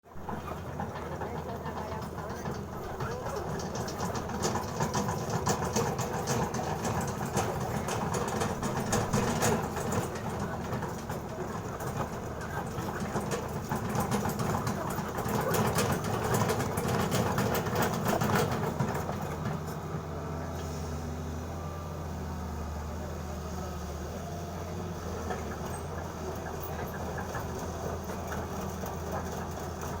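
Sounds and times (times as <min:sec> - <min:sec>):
excavator diesel engine: 0:00.0 - 0:30.0
rapid clattering and clanking: 0:00.2 - 0:19.9, 0:25.1 - 0:30.0.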